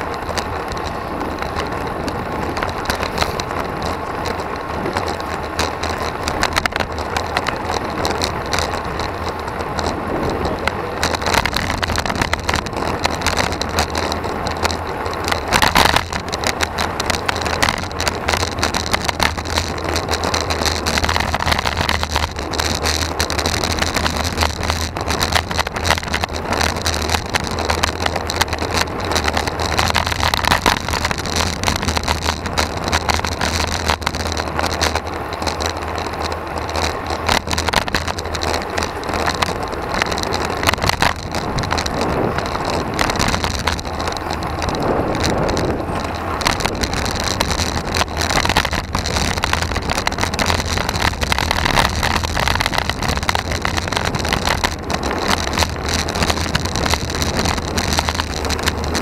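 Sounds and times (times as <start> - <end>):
bike knocking over bumps: 0.0 - 59.0
wind noise on microphone: 0.0 - 59.0.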